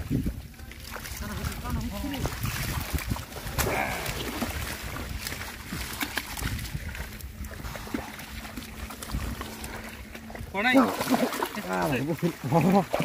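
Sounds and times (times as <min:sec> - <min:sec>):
wind rumble on microphone: 0:00.0 - 0:11.7
water sloshing and splashing: 0:00.0 - 0:13.0.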